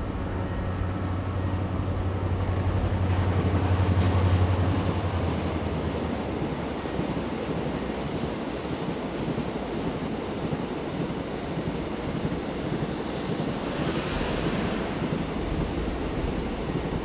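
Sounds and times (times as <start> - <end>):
diesel locomotive engine drone: 0.0 - 17.0
train wheels rolling over rails: 2.2 - 17.0.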